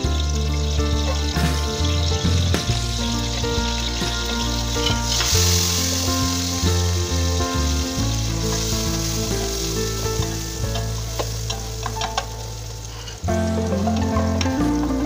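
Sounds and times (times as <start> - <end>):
background music: 0.0 - 15.0
ginger sizzling in oil: 0.0 - 15.0.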